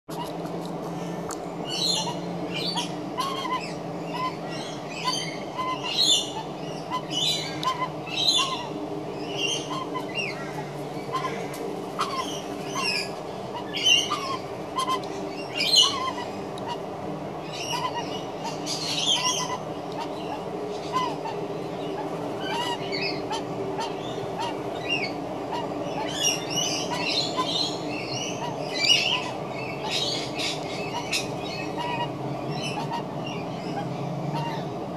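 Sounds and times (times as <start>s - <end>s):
magpie droning warble: 0.1s - 34.9s.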